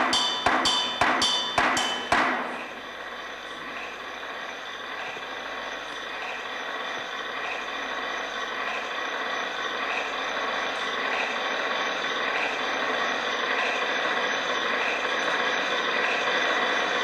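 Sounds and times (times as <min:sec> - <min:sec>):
steady high tones: 0:00.0 - 0:16.9
noisy drone: 0:00.0 - 0:17.0.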